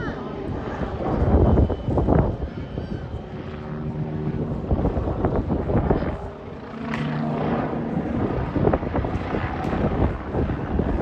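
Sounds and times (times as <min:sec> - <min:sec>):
helicopter rotor and engines: 0:00.0 - 0:11.0.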